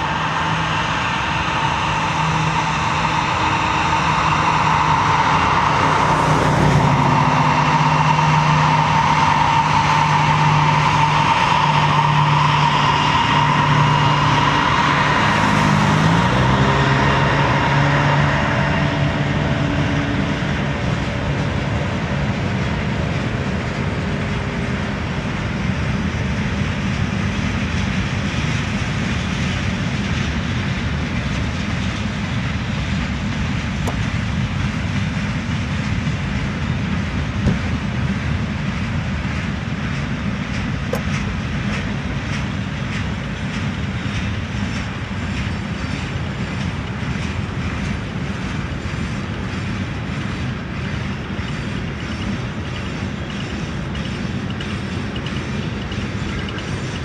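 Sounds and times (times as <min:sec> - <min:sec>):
diesel locomotive engine drone: 0:00.0 - 0:57.0
freight cars rumbling and rattling: 0:00.0 - 0:57.0.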